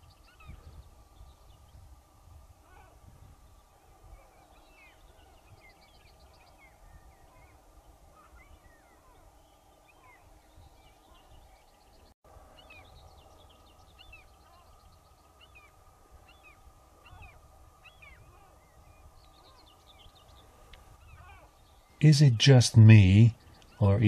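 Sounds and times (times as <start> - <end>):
small birds chirping: 0.0 - 1.9, 2.6 - 24.0
faint steady hum: 0.0 - 24.0.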